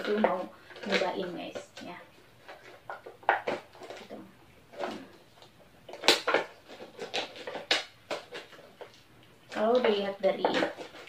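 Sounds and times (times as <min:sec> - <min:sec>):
plastic wrap crackling: 0:00.0 - 0:11.0.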